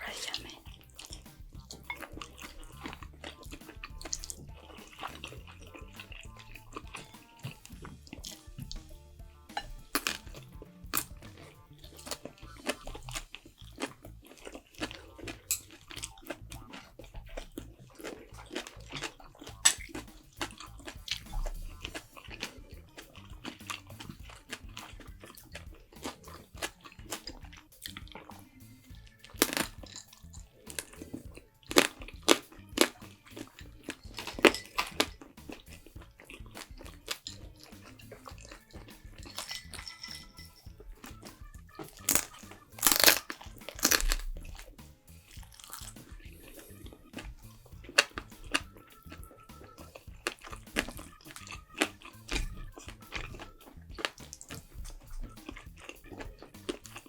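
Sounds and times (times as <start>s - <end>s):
chewing with crunching bites: 0.0s - 57.0s
faint background music: 0.0s - 57.0s.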